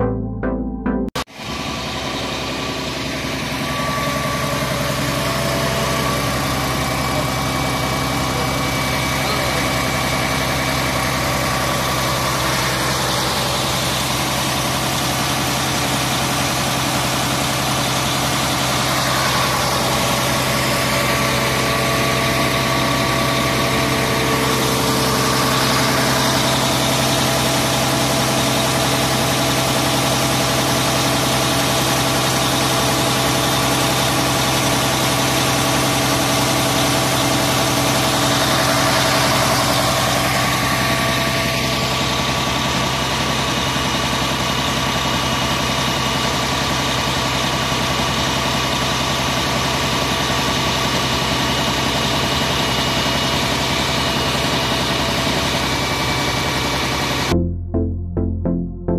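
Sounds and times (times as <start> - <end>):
truck engine running: 0.0 - 58.9.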